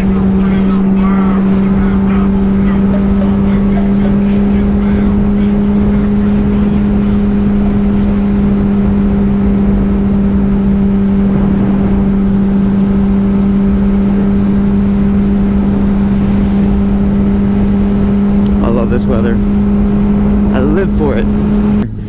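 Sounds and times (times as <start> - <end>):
motorcycle engine cruising: 0.0 - 22.0
road noise: 0.0 - 22.0
rushing wind: 0.0 - 22.0.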